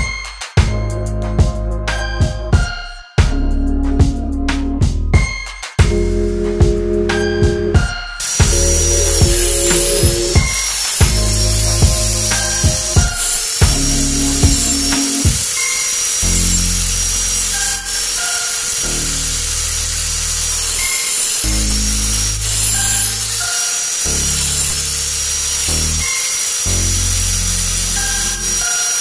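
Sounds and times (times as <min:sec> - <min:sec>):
music with low chords: 0:00.0 - 0:26.1, 0:26.7 - 0:28.6.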